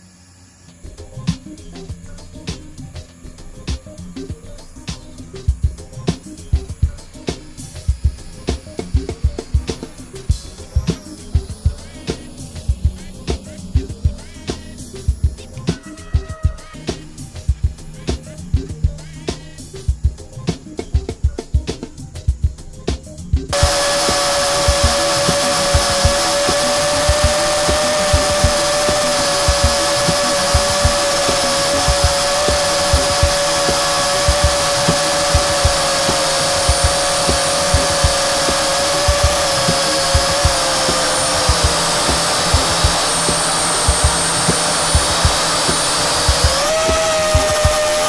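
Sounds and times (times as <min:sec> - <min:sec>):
drone propellers whining: 0:00.0 - 0:20.2, 0:23.5 - 0:48.0
music beat: 0:00.7 - 0:48.0.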